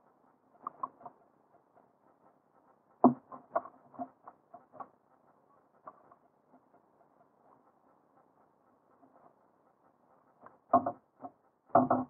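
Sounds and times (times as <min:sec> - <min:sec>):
light taps and clicks: 0:00.0 - 0:12.0.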